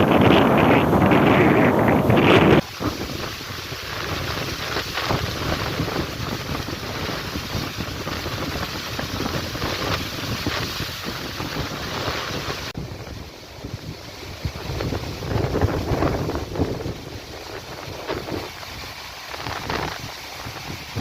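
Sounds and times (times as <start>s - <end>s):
gusting wind buffeting microphone: 0.0s - 21.0s.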